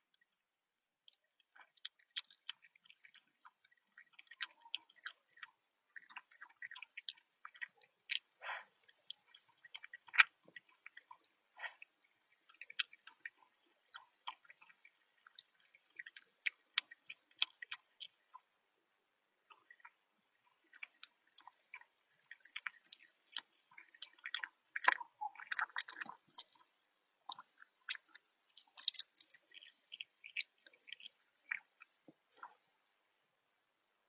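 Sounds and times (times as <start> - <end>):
fox chewing: 1.0 - 18.6, 19.3 - 32.9.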